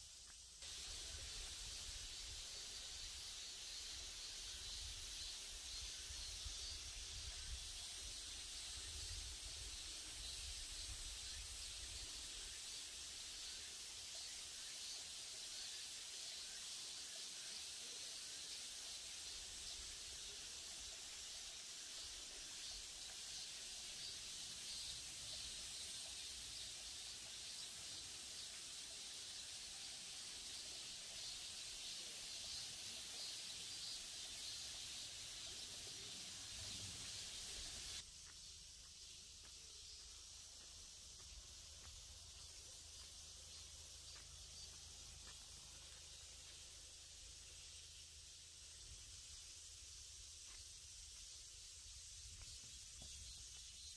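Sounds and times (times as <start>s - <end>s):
steady high hiss: 0.0s - 53.9s.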